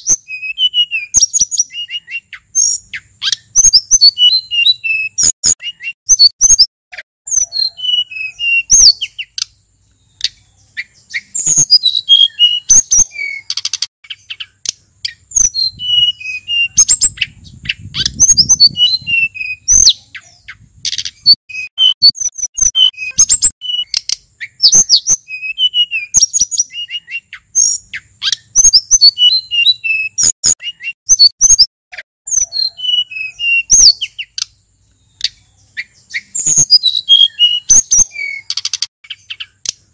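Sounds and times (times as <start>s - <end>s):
bird singing chirps and whistles: 0.0s - 6.7s, 7.3s - 31.7s, 32.3s - 39.9s.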